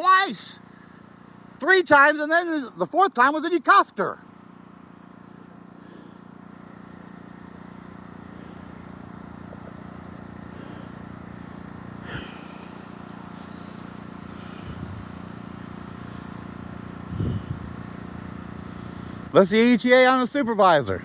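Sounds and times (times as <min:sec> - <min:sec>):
engine idling hum: 0:00.0 - 0:21.0.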